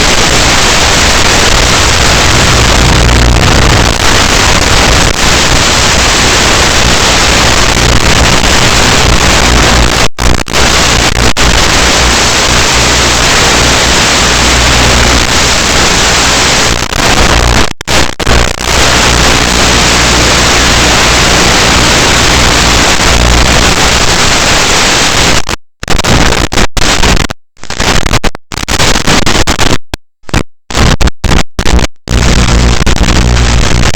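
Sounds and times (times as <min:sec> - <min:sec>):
loud static hiss: 0:00.0 - 0:33.9.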